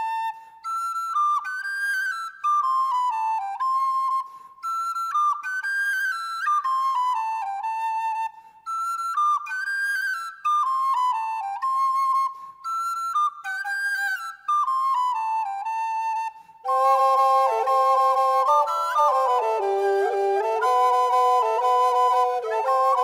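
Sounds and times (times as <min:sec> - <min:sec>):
flute-like melody: 0:00.0 - 0:23.0.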